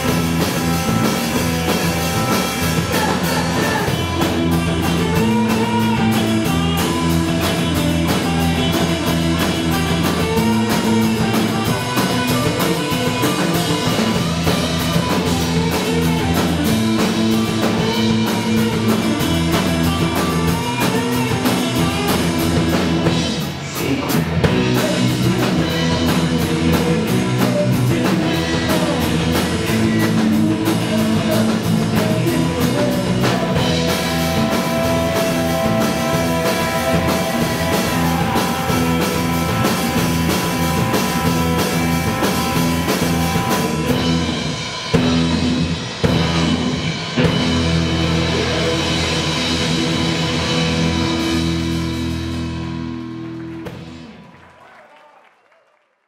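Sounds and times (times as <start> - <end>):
surf rock band playing: 0.0 - 54.3.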